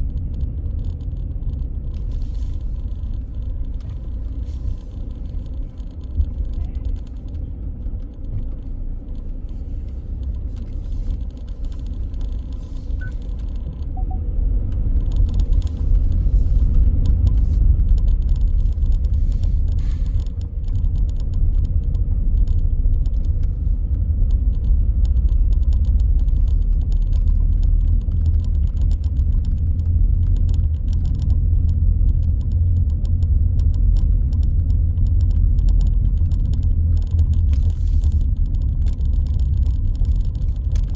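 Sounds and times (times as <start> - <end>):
engine and tyre rumble: 0.0 - 40.9
light rattling clicks: 0.0 - 40.9.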